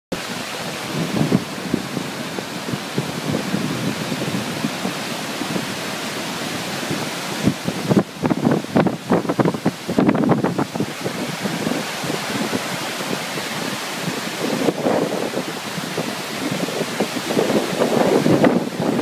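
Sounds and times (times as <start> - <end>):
river rushing: 0.1 - 19.0
wind buffeting microphone: 0.1 - 19.0.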